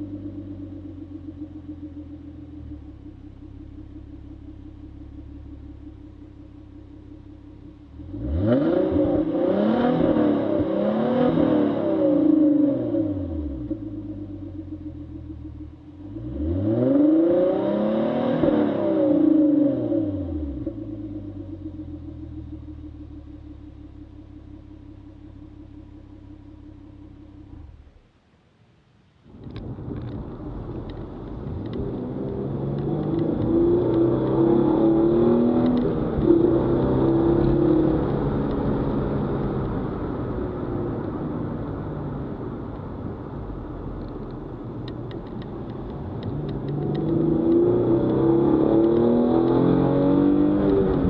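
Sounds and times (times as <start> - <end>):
car engine idling and revving: 0.0 - 51.0.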